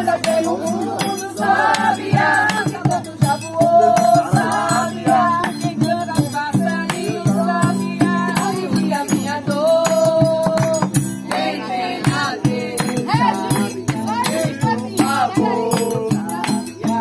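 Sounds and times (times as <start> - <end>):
shaker-like percussion: 0.0 - 17.0.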